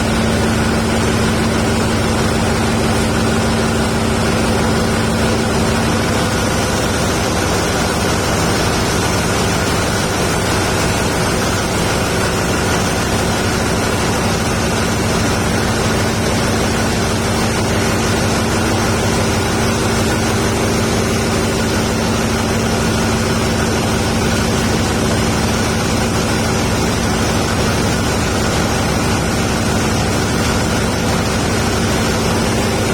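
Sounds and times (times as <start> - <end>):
large engine running steadily: 0.0 - 32.9.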